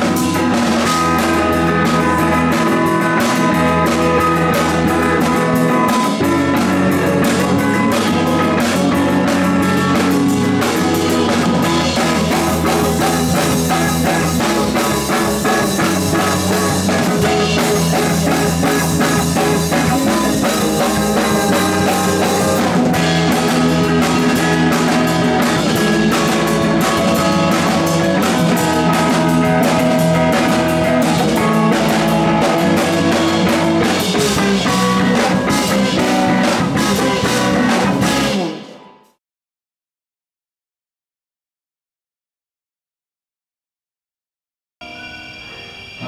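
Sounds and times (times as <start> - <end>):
rock band playing live: 0.0 - 39.0.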